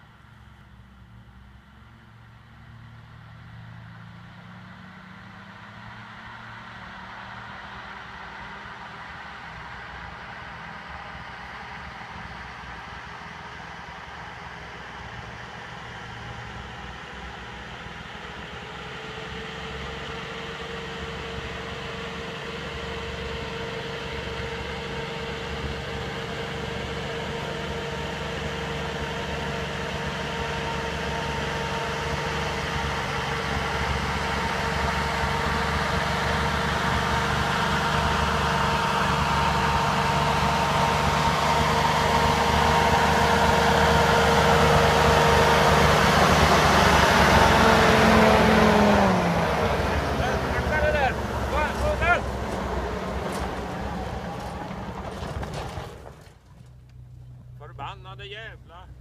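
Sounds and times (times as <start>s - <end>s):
vehicle engine approaching: 0.0s - 59.0s.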